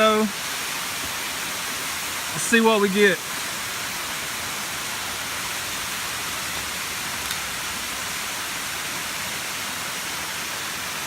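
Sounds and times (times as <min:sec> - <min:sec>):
waterfall rushing hiss: 0:00.0 - 0:11.0.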